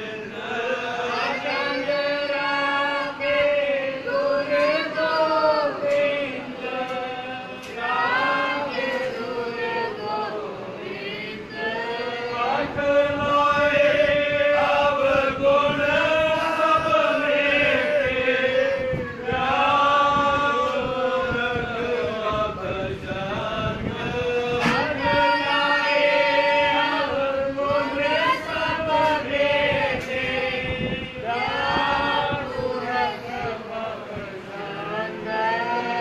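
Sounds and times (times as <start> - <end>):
group chanting a hymn: 0.0 - 36.0.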